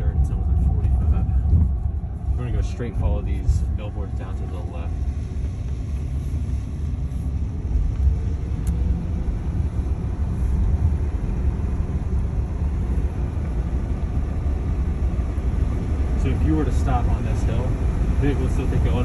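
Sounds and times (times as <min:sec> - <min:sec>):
faint rising whine: 0:00.0 - 0:19.0
tyre and road noise rumble: 0:00.0 - 0:19.0.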